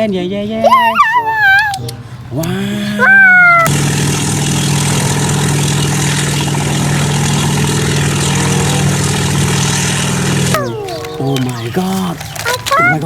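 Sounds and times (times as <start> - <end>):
motor humming: 1.4 - 13.0.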